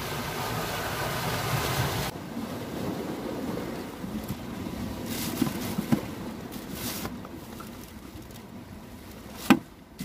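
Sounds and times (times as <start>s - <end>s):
sea waves washing in: 0.0s - 10.0s.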